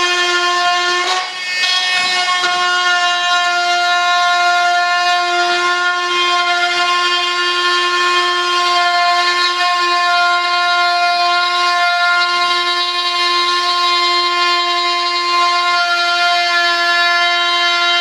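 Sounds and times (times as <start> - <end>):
oscillating multi-tool buzzing: 0.0 - 18.0.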